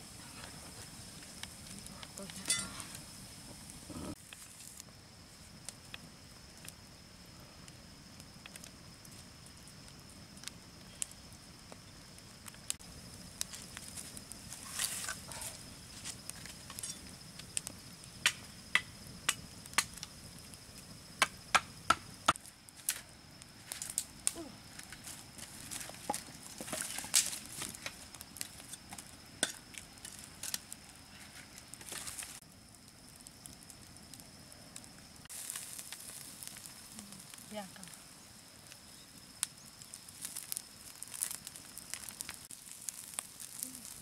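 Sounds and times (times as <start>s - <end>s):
wood campfire crackling and popping: 0.0s - 44.0s.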